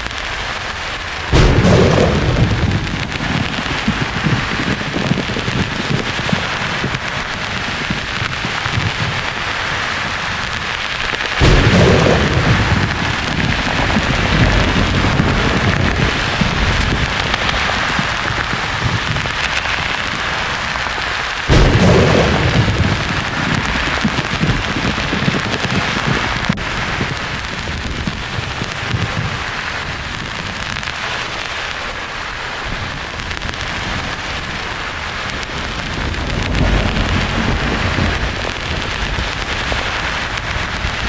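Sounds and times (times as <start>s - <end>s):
thunder claps rumbling: 0.0s - 32.0s, 32.6s - 41.0s.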